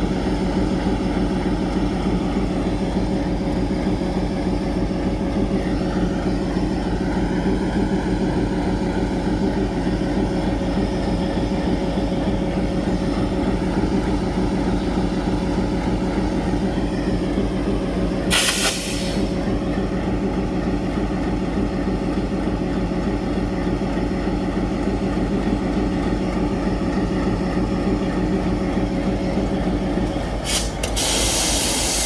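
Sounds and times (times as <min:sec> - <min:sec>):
diesel locomotive engine idling: 0:00.0 - 0:32.0.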